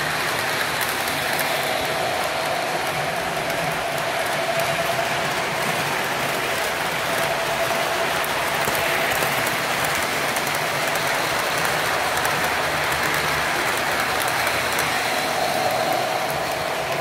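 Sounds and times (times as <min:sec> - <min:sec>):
model train wheels rattling on rails: 0:00.0 - 0:17.0.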